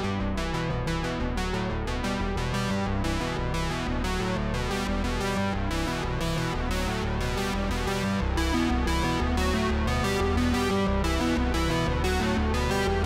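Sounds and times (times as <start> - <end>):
synthesizer and keyboard music: 0.0 - 13.0.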